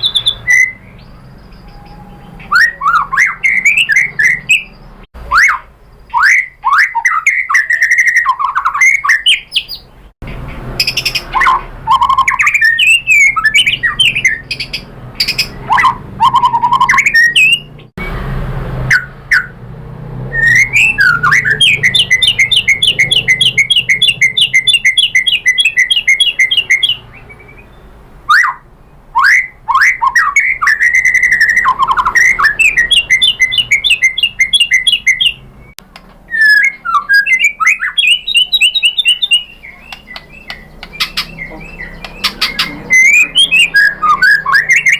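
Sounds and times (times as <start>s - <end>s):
bird singing whistled phrases: 0.0s - 9.9s, 10.8s - 17.8s, 20.4s - 35.7s, 36.3s - 44.9s.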